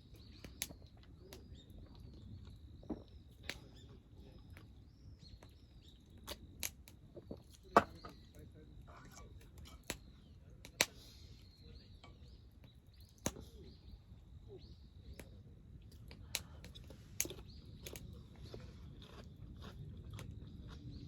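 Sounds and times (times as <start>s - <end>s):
faint bird chirps: 0.0s - 6.6s, 7.6s - 18.7s.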